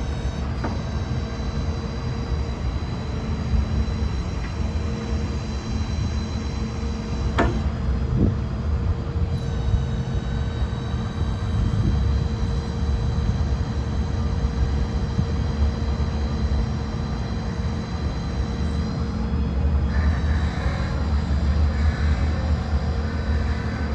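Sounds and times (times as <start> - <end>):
steady whine: 0.0 - 23.9
truck engine rumbling: 0.0 - 23.9.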